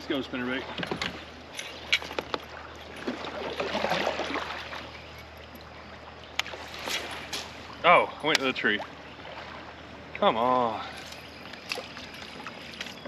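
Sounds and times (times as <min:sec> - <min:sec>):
water sloshing around kayak: 0:00.0 - 0:13.0.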